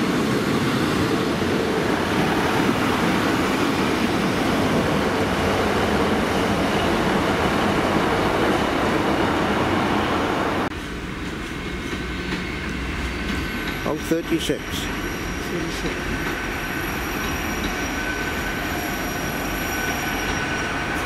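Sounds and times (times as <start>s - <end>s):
train engine and wheels rumbling: 0.0s - 21.0s.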